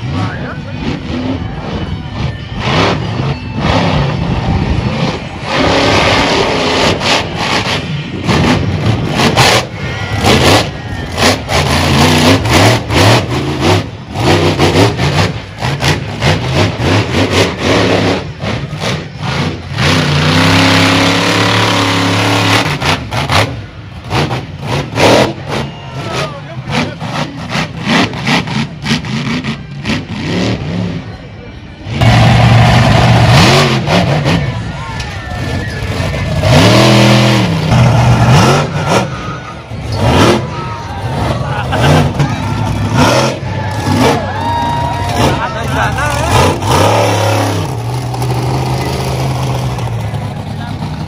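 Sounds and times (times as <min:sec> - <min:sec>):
engine crackles and bangs: 0:00.0 - 0:31.1, 0:31.8 - 0:51.0
truck engine revving: 0:00.0 - 0:51.0.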